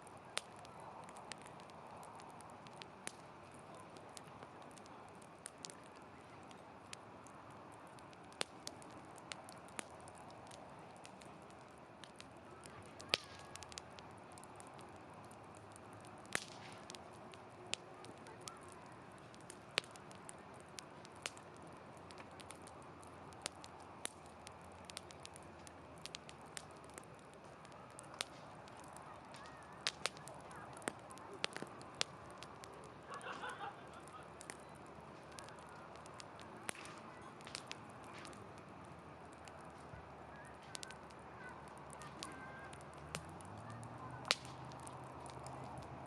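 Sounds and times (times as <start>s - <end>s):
campfire crackling and popping: 0.0s - 46.0s
hiss of flames: 0.0s - 46.0s.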